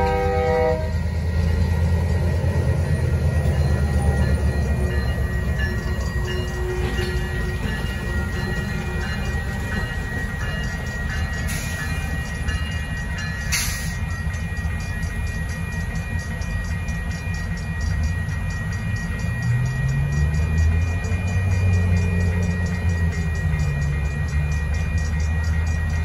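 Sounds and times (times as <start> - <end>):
crossing bell ringing: 0.0 - 26.0
diesel locomotives running: 0.0 - 26.0.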